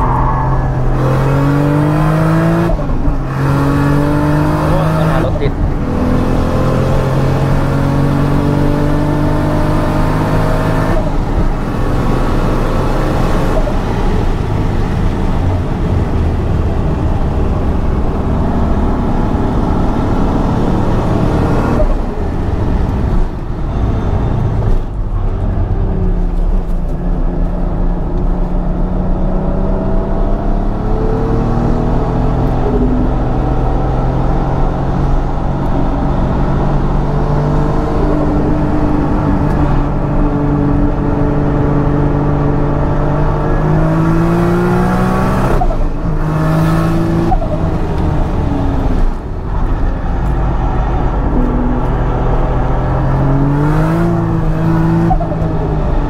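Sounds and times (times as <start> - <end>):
car engine accelerating in cabin: 0.0 - 56.0
road and wind noise: 0.0 - 56.0.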